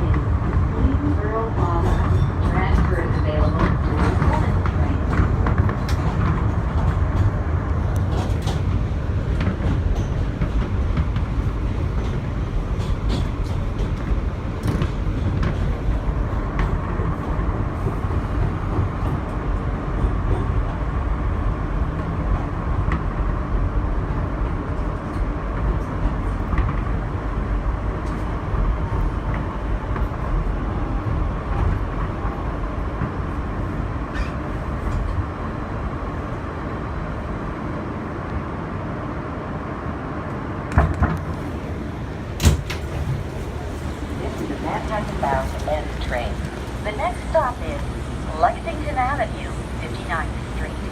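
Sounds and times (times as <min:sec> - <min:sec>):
subway wheels rumbling on rail: 0:00.0 - 0:50.9.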